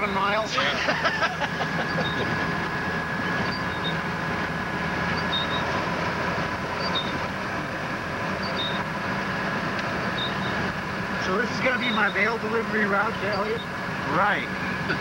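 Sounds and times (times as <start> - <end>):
snowcat engine and track drone: 0.0 - 15.0
thin steady whine: 0.0 - 15.0.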